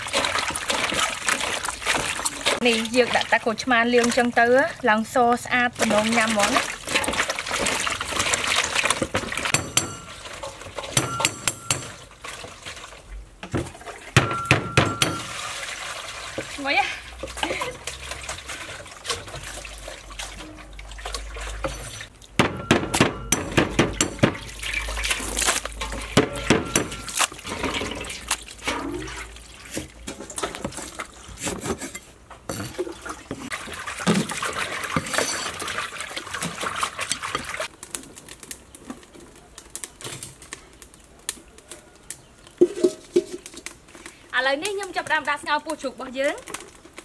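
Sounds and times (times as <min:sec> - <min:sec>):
water splashing in plastic basins: 0:00.0 - 0:40.8, 0:42.5 - 0:47.0.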